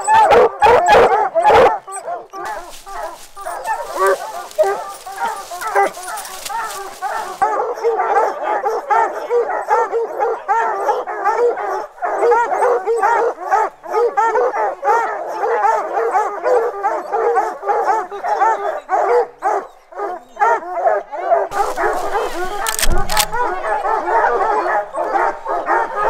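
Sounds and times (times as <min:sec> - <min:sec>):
hounds baying and barking: 0:00.0 - 0:26.0.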